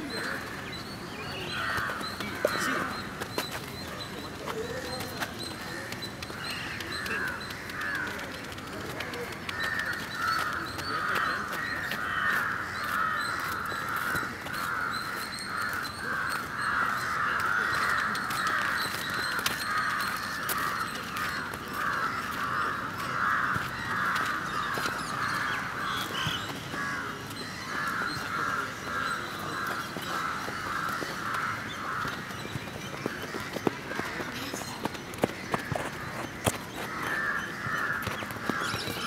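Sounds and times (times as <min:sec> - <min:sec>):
chorus of birds calling: 0:00.0 - 0:39.0.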